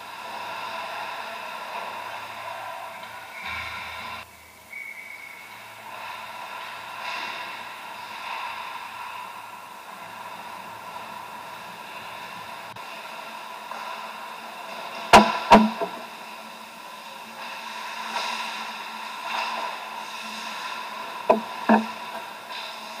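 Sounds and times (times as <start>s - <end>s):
ice rink ambience hiss: 0.0s - 23.0s.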